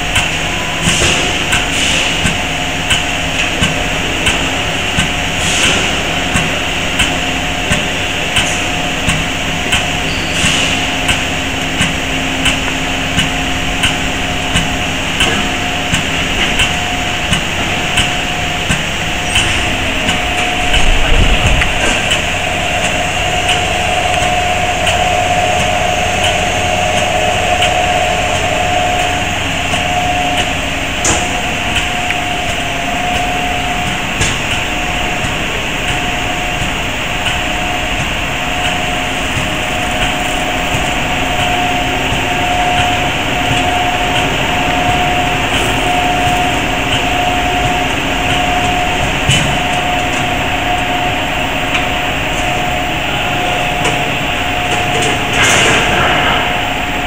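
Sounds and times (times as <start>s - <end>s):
machinery mechanical drone: 0.0s - 57.0s
pulsing mid-pitched whine: 0.0s - 57.0s.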